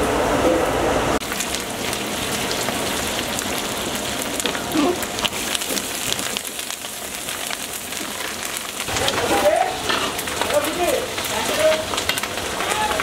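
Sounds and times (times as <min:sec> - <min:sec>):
leaves and chillies frying in oil: 0:01.2 - 0:13.0.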